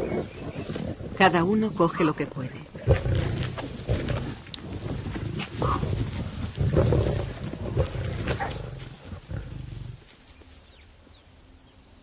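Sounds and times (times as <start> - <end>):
lions growling: 0.0 - 10.3.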